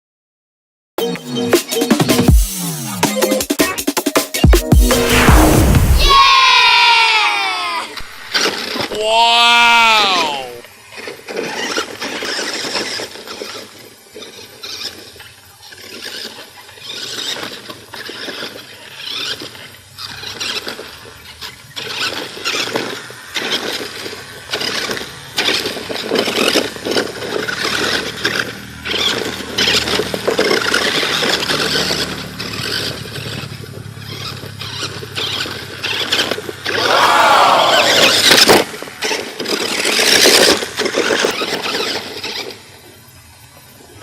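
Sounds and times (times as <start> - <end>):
small electric motor whining: 6.0 - 44.0.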